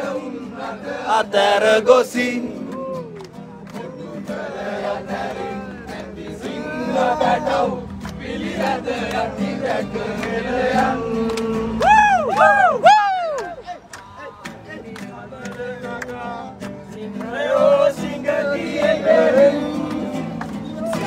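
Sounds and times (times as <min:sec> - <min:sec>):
crowd singing and chanting: 0:00.0 - 0:21.0.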